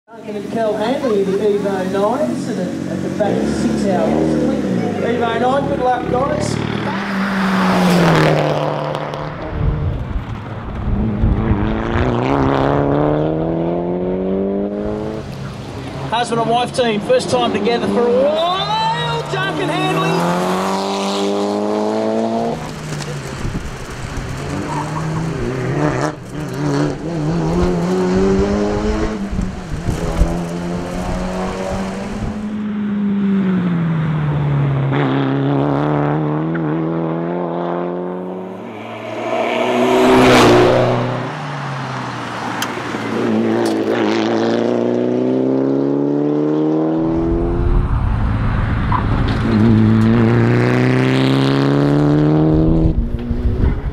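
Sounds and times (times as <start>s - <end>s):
car engine revving through gears: 2.4s - 15.3s, 19.9s - 53.9s.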